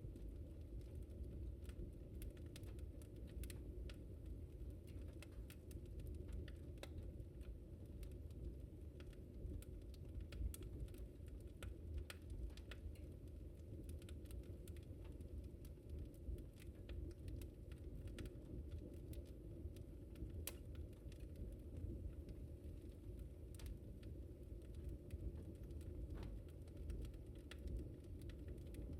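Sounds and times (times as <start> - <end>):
faint low rumble: 0.0 - 28.9
wood fire crackling: 0.0 - 28.9.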